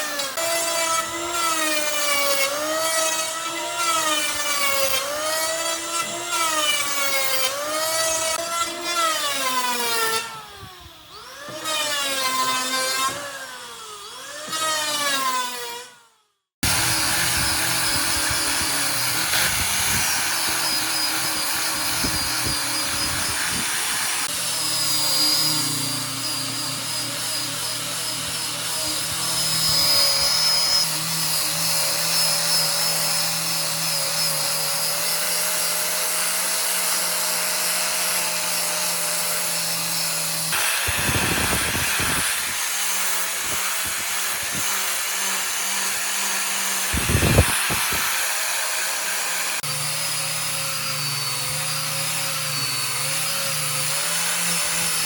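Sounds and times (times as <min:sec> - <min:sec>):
power tool cutting wood: 0:00.0 - 0:55.0.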